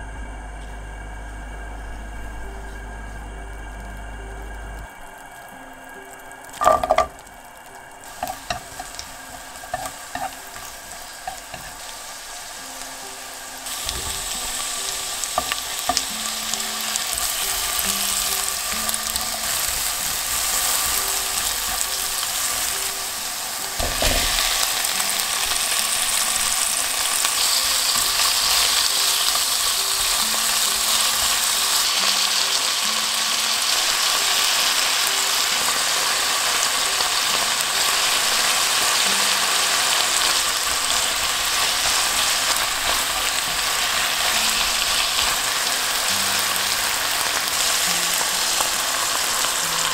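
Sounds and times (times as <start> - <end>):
bacon sizzling in a pot: 3.7 - 49.9.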